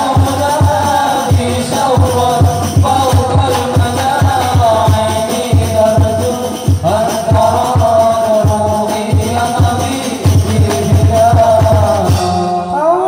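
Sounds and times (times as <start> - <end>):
frame drums beating: 0.0 - 13.0
men singing in unison: 0.0 - 13.0.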